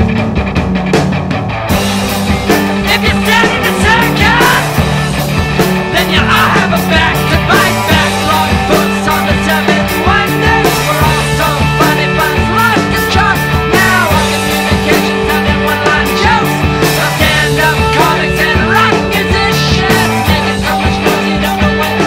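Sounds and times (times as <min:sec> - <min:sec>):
rock music with drum beat: 0:00.0 - 0:22.0.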